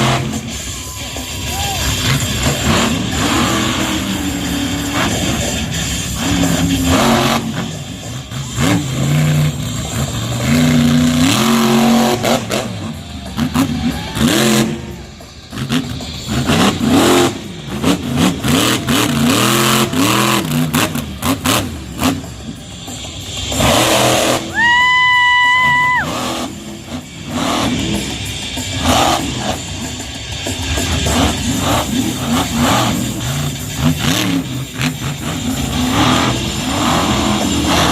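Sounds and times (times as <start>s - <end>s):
truck engine revving: 0.0s - 24.9s, 25.5s - 37.9s.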